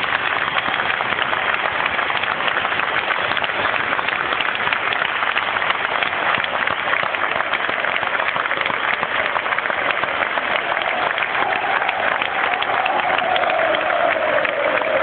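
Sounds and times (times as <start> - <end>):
crowd clapping: 0.0 - 15.0.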